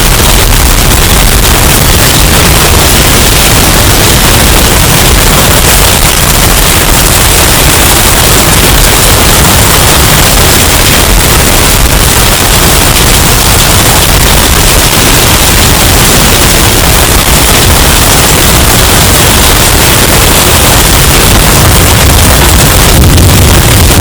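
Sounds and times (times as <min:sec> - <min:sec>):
distorted hurricane wind roar: 0:00.0 - 0:24.0.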